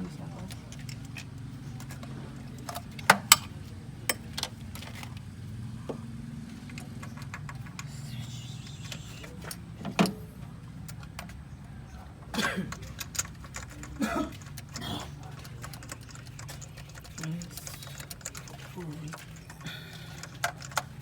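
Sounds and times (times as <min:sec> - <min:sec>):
car engine running: 0:00.0 - 0:21.0
sharp metallic clicks and knocks: 0:00.5 - 0:21.0.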